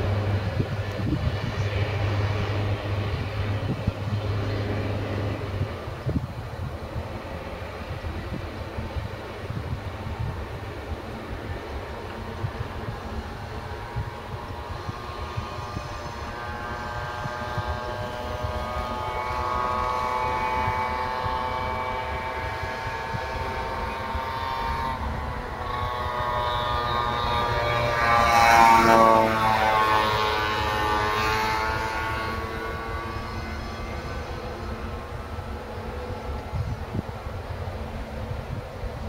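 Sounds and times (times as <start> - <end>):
diesel locomotive engines droning: 0.0 - 39.0.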